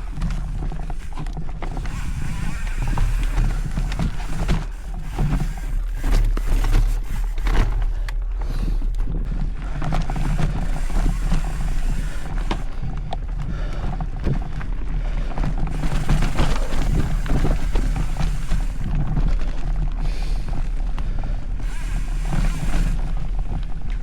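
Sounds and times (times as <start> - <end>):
bike knocking and rattling: 0.0 - 24.0.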